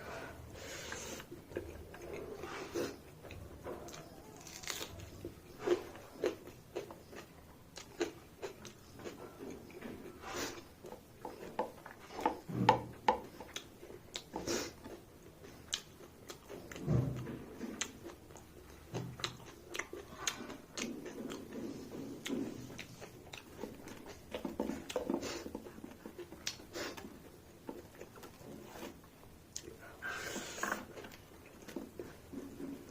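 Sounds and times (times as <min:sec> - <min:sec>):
wet chewing and lip smacks: 0:00.9 - 0:12.5, 0:13.1 - 0:32.7.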